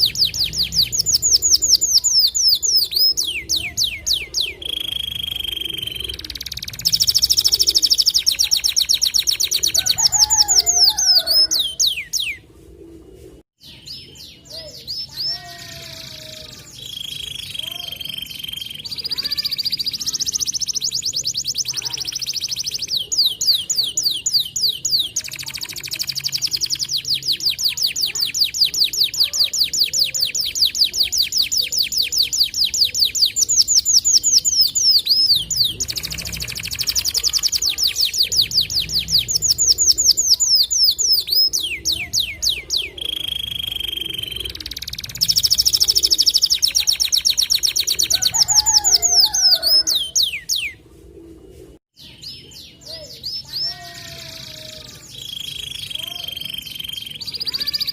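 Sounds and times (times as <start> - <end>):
canary trilling song: 0.0 - 12.4, 13.6 - 50.8, 51.9 - 57.9.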